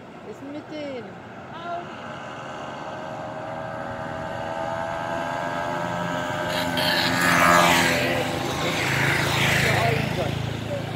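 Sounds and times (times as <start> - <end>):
two-stroke moped engines droning: 1.5 - 10.9.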